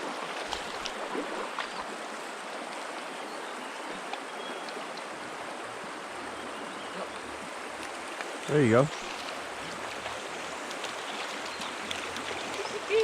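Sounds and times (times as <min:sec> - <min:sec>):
creek water running over rocks: 0:00.0 - 0:13.0.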